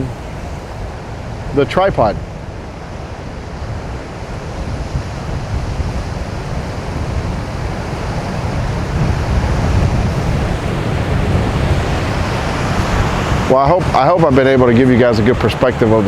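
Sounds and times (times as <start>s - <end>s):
surf breaking: 0.0s - 2.5s, 3.4s - 16.0s
wind buffeting microphone: 0.0s - 16.0s.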